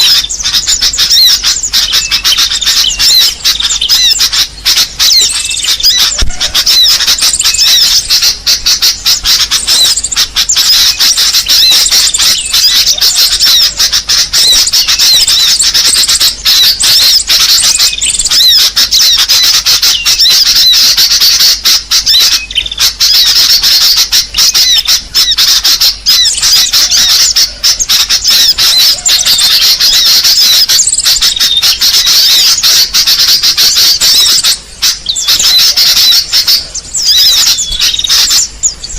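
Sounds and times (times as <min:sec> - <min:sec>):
small birds chattering and squawking: 0:00.0 - 0:38.9.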